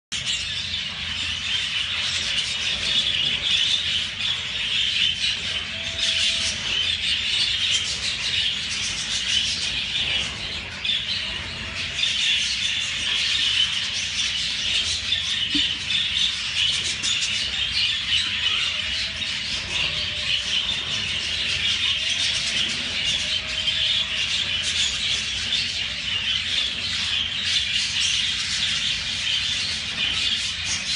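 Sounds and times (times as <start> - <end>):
budgerigars twittering: 0.1 - 30.9.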